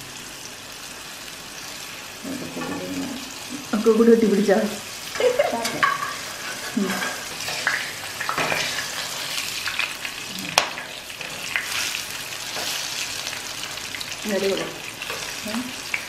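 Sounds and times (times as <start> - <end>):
fritters deep-frying in oil: 0.0 - 16.0
spatula turning food in pan: 1.6 - 16.0.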